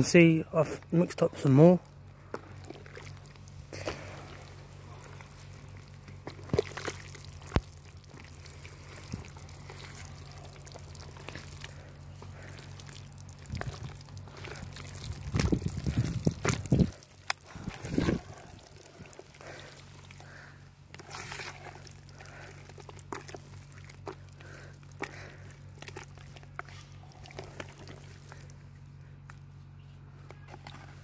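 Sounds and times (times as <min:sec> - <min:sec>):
wet plaster sloshing and squelching: 0:01.3 - 0:29.6, 0:30.4 - 0:31.0.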